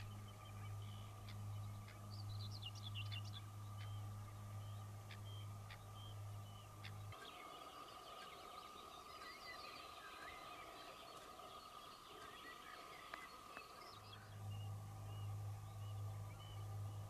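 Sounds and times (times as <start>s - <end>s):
deeper low hum: 0.0s - 17.0s
small birds chirping: 0.0s - 17.0s
steady background hum: 0.0s - 17.0s.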